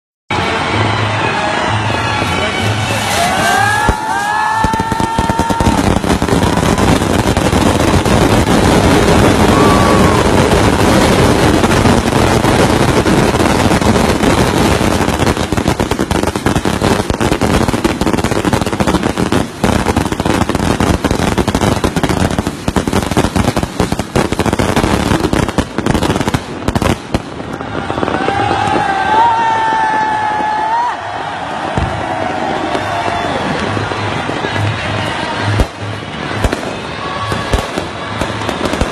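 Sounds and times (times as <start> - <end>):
firecrackers crackling: 0.4 - 38.9.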